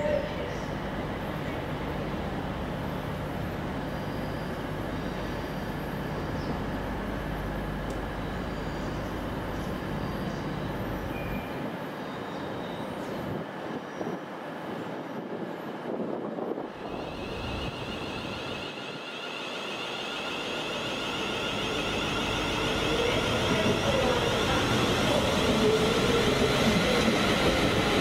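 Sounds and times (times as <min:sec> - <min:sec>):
train low hum: 0:00.0 - 0:28.0
train rushing noise: 0:00.0 - 0:28.0.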